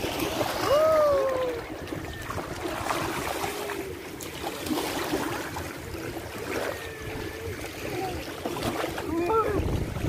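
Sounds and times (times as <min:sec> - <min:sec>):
feet wading through water: 0:00.0 - 0:10.0
small waves lapping: 0:00.0 - 0:10.0.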